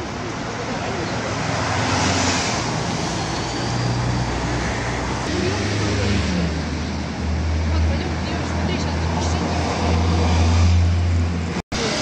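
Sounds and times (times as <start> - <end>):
road noise: 0.0 - 12.0
vehicle engines humming: 0.0 - 12.0.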